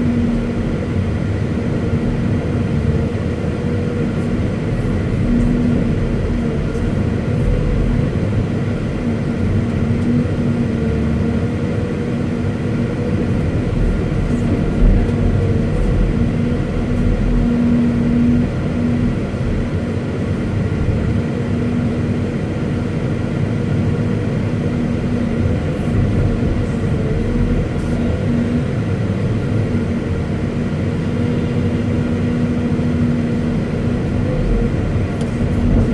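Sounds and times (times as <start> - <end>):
excavator diesel engine droning: 0.0 - 35.9.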